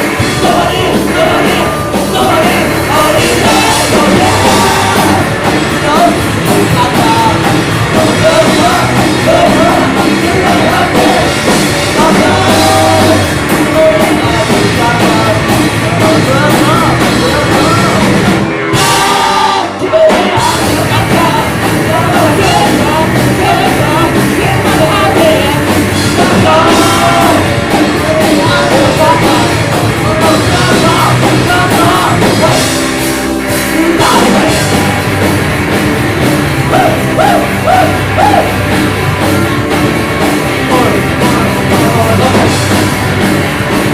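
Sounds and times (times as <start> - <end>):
person singing: 0.0 - 35.0, 36.6 - 38.7, 40.4 - 43.0
rock band playing live: 0.0 - 43.9.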